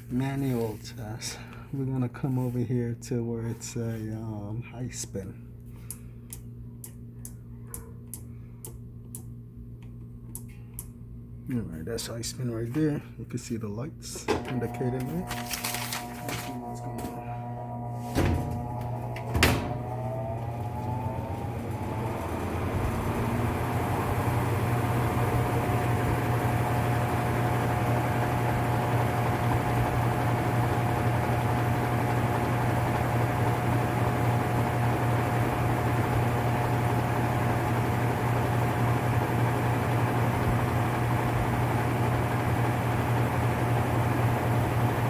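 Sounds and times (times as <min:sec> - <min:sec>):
washer spinning with whine: 0:06.0 - 0:11.4, 0:14.2 - 0:45.0.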